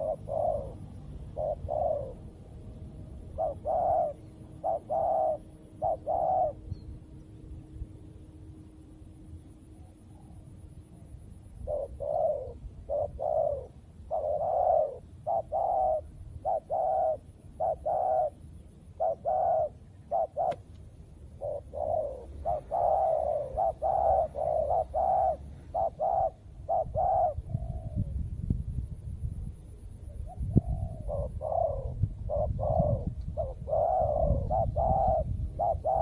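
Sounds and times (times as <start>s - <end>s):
doves cooing: 0.0s - 7.0s, 9.7s - 28.2s, 30.1s - 36.0s.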